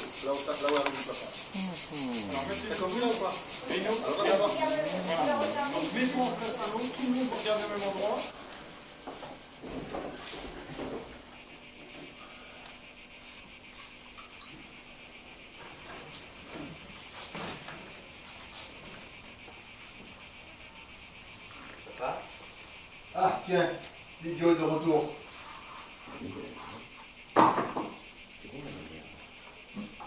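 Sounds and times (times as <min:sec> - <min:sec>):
insects chirping: 0:00.0 - 0:30.0.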